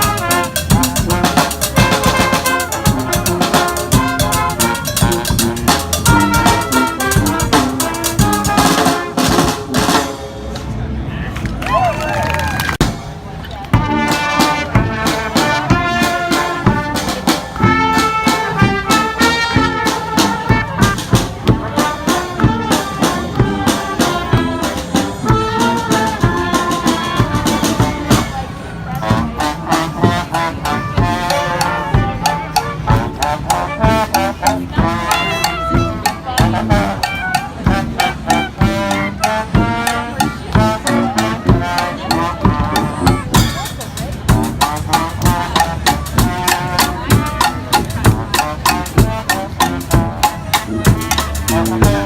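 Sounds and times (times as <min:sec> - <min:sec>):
steady drum beat: 0:00.0 - 0:10.2, 0:13.8 - 0:52.0
horns playing held notes: 0:00.0 - 0:10.6, 0:13.8 - 0:52.0.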